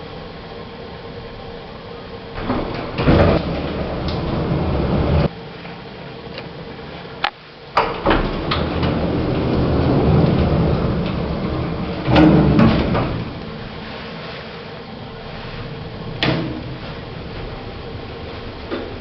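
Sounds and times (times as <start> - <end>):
hydraulic lift rumbling: 0.0 - 5.3, 6.5 - 19.0.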